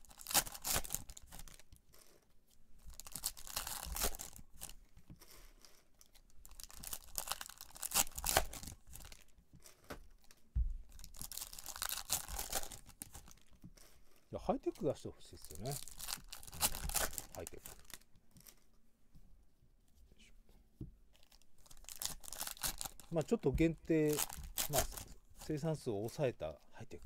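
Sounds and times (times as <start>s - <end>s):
trading cards rustling: 0.1s - 18.7s, 21.1s - 26.3s.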